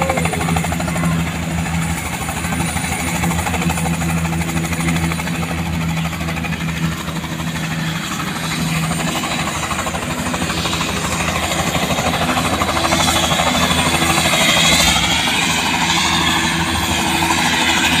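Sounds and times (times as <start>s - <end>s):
helicopter idling hum: 0.0s - 18.0s.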